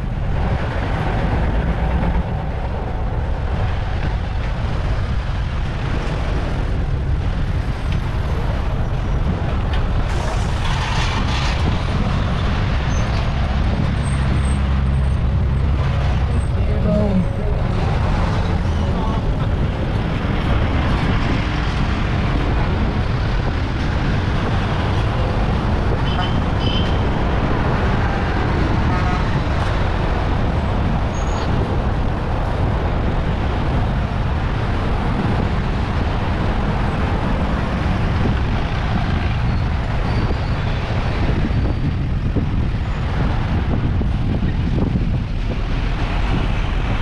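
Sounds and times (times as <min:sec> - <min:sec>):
street traffic noise: 0:00.0 - 0:47.0
wind rushing on microphone: 0:00.0 - 0:47.0.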